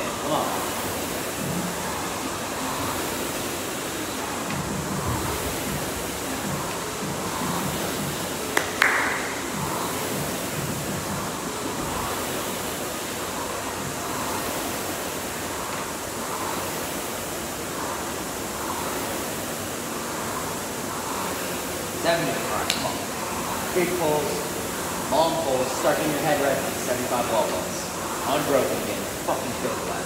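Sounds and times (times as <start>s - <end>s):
rowing machine fan whooshing: 0.0s - 30.0s.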